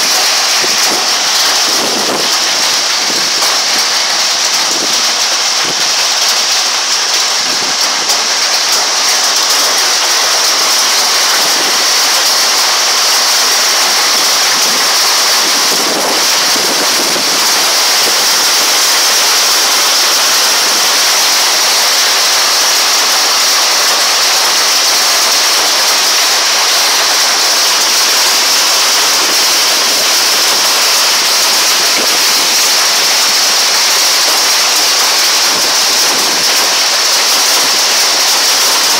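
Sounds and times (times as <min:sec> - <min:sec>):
hail and heavy rain pelting: 0:00.0 - 0:38.9.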